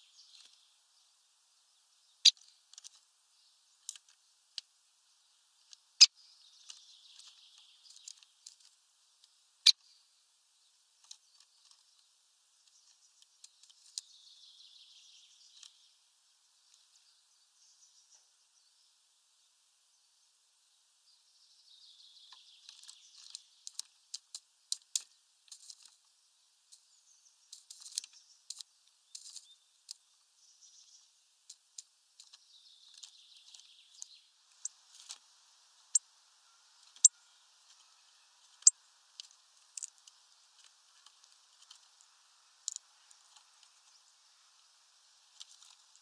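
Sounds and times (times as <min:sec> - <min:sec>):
faint high hiss: 0:00.0 - 0:46.0.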